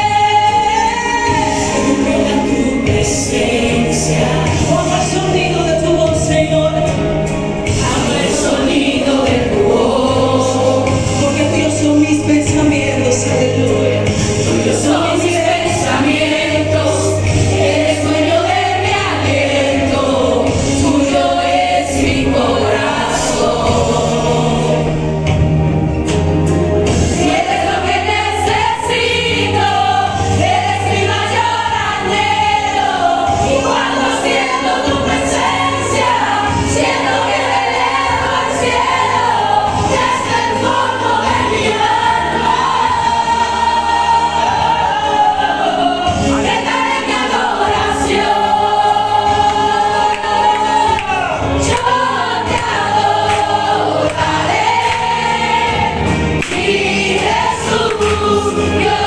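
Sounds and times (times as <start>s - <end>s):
group singing together: 0.0s - 59.0s
low instrumental accompaniment: 0.0s - 59.0s.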